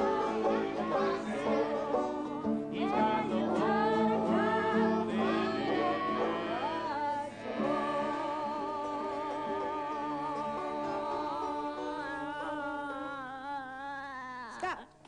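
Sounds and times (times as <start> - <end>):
group singing in harmony: 0.0 - 13.4.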